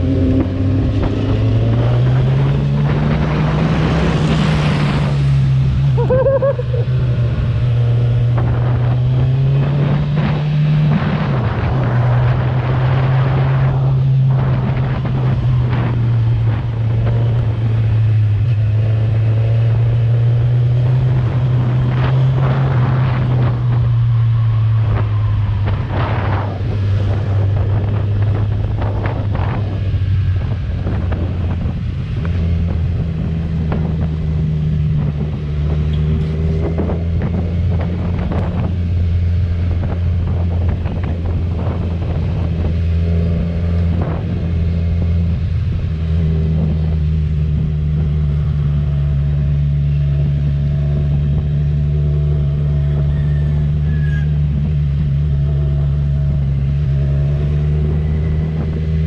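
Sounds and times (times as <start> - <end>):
motorcycle engine cruising: 0.0 - 59.0
wind buffeting microphone: 0.0 - 59.0.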